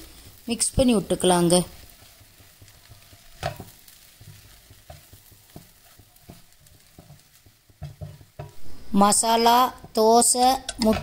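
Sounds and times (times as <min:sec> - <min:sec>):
faint frying sizzle: 0:00.0 - 0:11.0
wooden spatula scraping a pot: 0:00.0 - 0:11.0.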